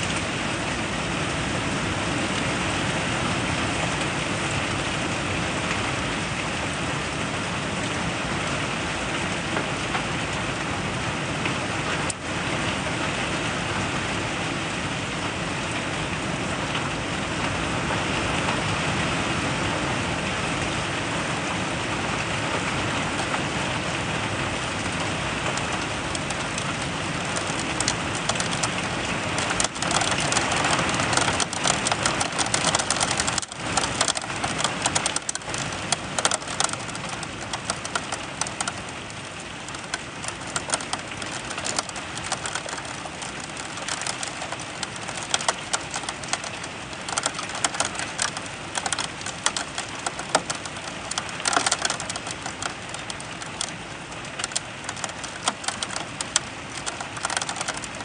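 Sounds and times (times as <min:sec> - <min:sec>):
crackle of raindrops striking: 0:00.0 - 0:19.7, 0:20.3 - 0:58.0
heavy rain pouring: 0:00.0 - 0:58.0.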